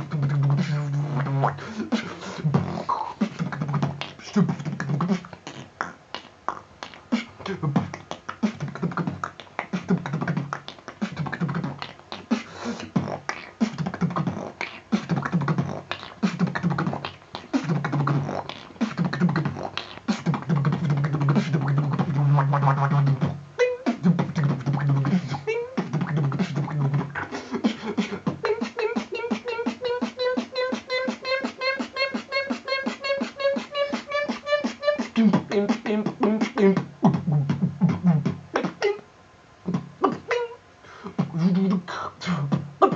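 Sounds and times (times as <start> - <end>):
buzzing pitched vocal line: 0.0 - 42.9
vocal beatboxing: 0.0 - 42.9.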